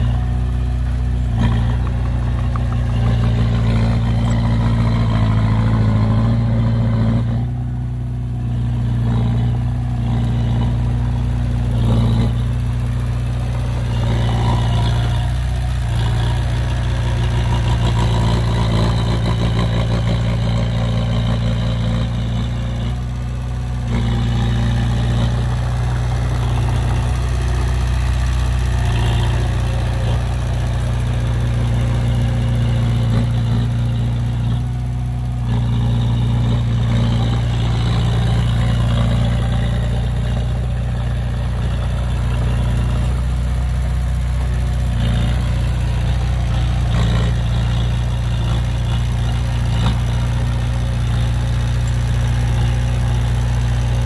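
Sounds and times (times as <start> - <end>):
heavy diesel engine drone: 0.0 - 54.0.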